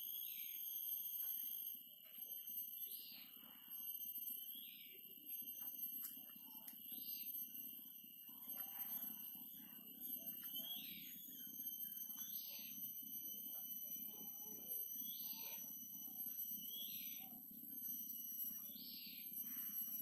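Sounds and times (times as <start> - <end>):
high-pitched ringing tone: 0.0 - 20.0.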